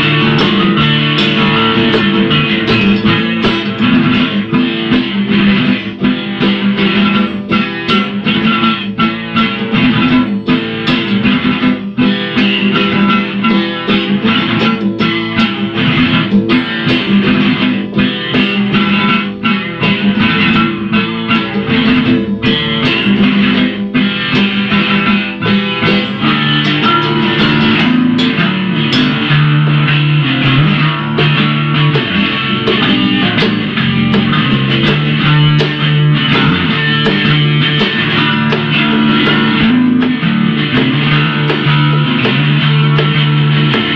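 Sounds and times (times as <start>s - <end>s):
rock band playing: 0.0s - 43.9s.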